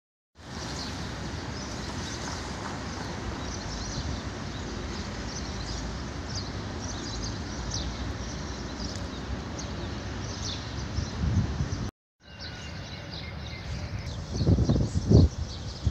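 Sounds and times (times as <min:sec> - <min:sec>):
small birds chirping: 0:00.5 - 0:15.9.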